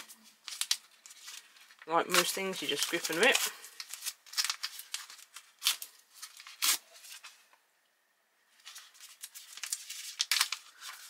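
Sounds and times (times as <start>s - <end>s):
plastic pouch ripping: 0.0s - 7.3s, 8.6s - 11.0s
wrapper crinkling and rustling: 0.0s - 7.4s, 8.6s - 11.0s.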